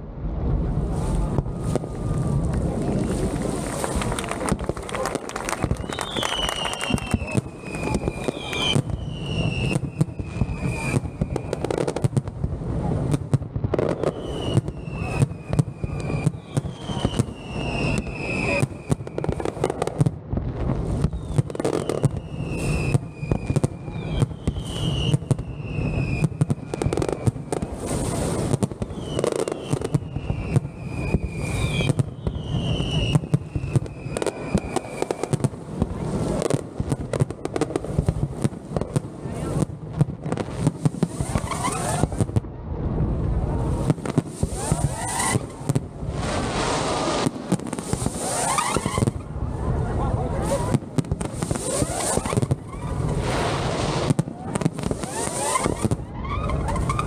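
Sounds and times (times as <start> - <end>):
fireworks bangs and crackling: 0.0 - 57.0
falling firework whistles: 0.8 - 12.1, 13.8 - 20.1, 20.8 - 38.5, 40.3 - 42.4, 43.7 - 49.7, 50.4 - 57.0.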